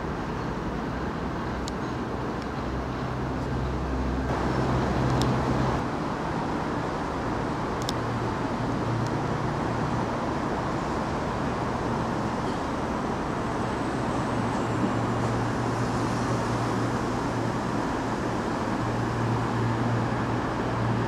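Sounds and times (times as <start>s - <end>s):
diesel engines humming: 0.0s - 21.0s.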